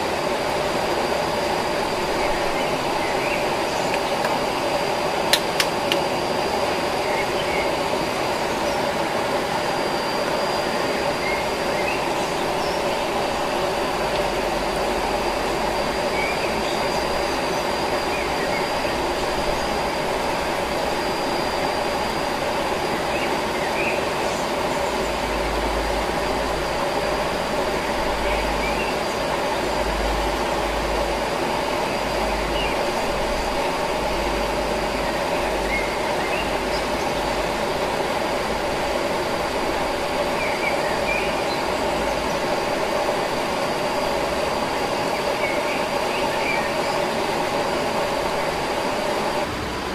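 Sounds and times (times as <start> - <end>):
high insect whine: 0.0 - 49.9.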